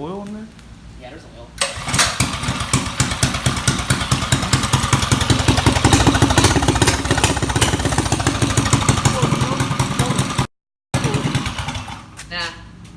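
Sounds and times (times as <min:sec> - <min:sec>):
mini bike engine puttering: 0:01.6 - 0:12.3.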